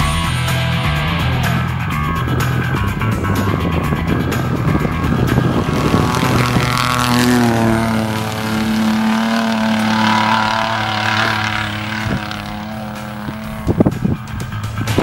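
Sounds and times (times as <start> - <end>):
pickup truck engine passing: 2.0 - 15.0.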